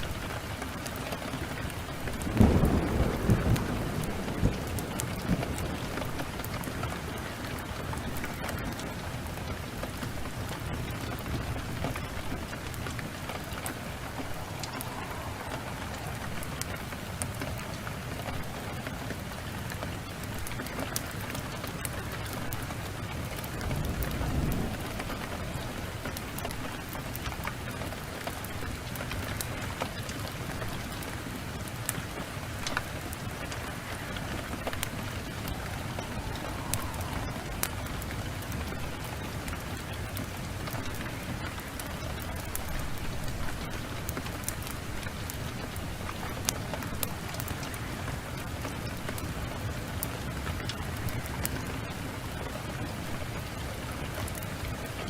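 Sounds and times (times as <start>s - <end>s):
low rumble of thunder: 0.0s - 50.0s
heavy rain hissing: 0.0s - 55.0s
wood fire crackling: 0.0s - 55.0s.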